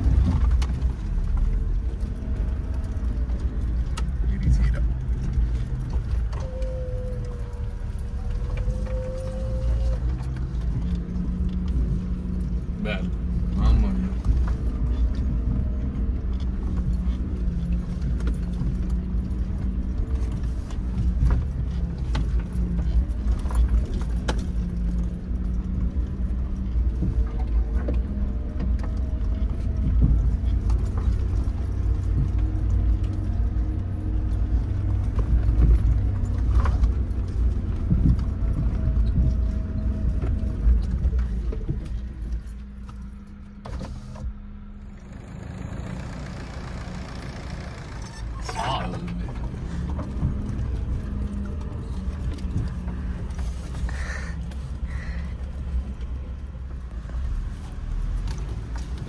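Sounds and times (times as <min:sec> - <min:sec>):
car body rattling over bumps: 0:00.0 - 0:59.0
car engine running: 0:00.0 - 0:59.0.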